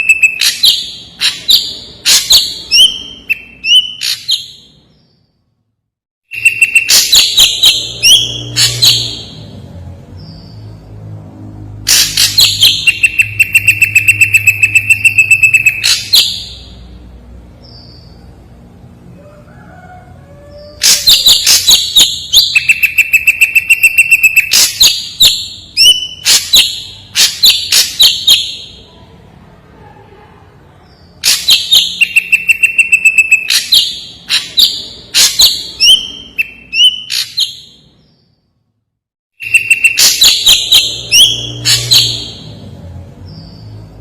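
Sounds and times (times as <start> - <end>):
bird singing sharp repeated notes: 0.0 - 5.6, 6.3 - 11.0, 11.9 - 18.4, 20.8 - 29.0, 30.8 - 38.6, 39.4 - 44.0.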